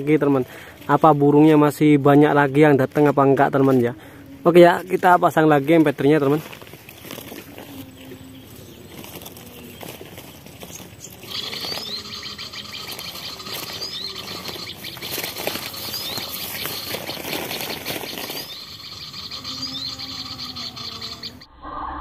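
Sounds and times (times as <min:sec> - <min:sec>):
recorded bird chirping from speaker: 0:00.0 - 0:21.5.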